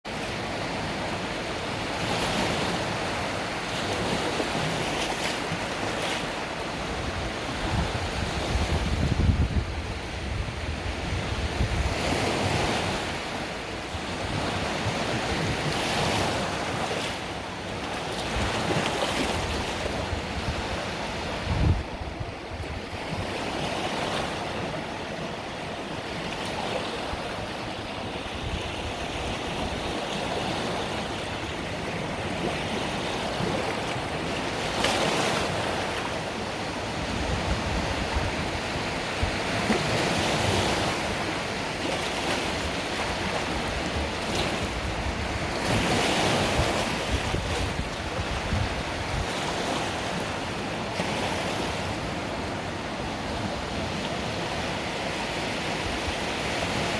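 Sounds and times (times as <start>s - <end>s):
waves breaking on a beach: 0.1s - 56.9s.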